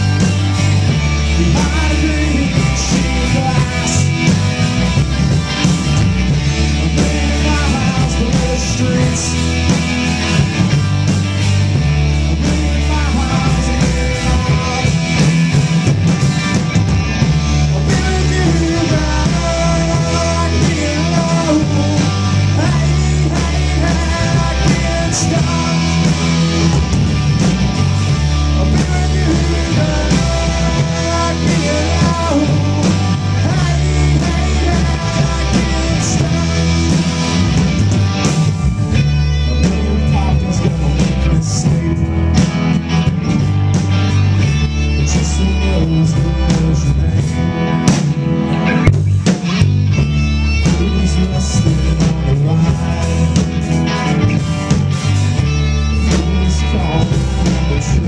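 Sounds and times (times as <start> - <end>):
bass guitar: 0.0 - 58.0
drums: 0.0 - 58.0
electric guitars: 0.0 - 58.0.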